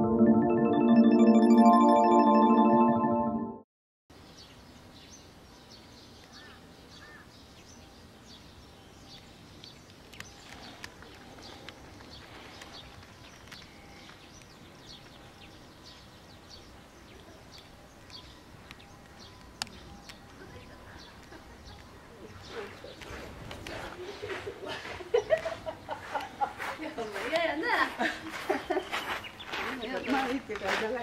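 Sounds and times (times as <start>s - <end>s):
small birds chirping: 4.1s - 31.0s.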